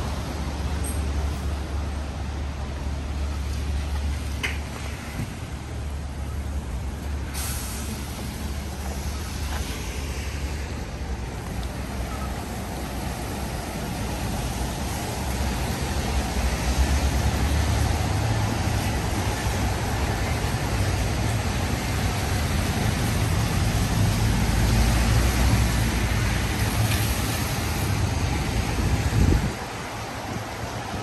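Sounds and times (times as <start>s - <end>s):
traffic on wet street: 0.0s - 31.0s.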